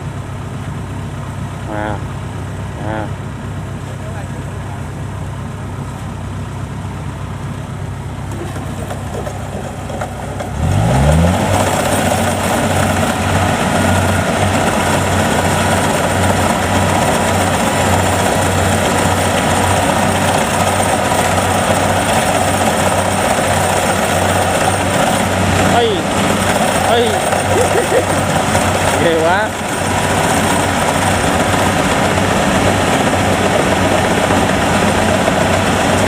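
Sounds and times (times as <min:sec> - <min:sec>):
combine harvester diesel engine: 0:00.0 - 0:36.0.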